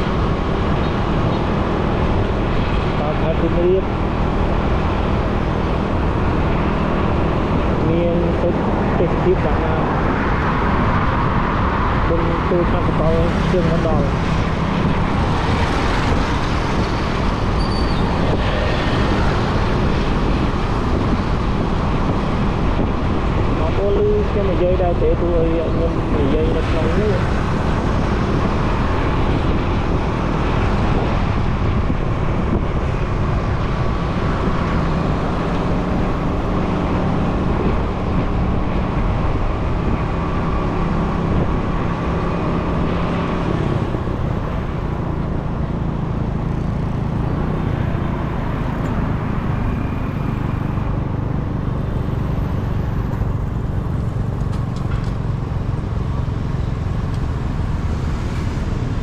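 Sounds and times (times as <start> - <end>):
passing traffic: 0.0 - 59.0
wind and road noise: 0.0 - 59.0.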